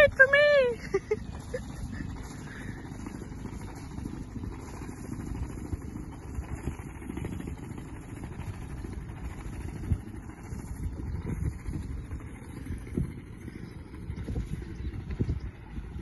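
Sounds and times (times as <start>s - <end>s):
boat diesel engine droning: 0.0s - 16.0s.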